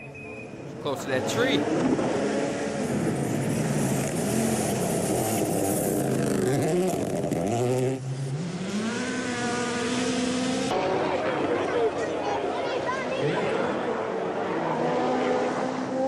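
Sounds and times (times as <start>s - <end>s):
car engine revving: 0.4s - 12.1s, 13.0s - 16.0s.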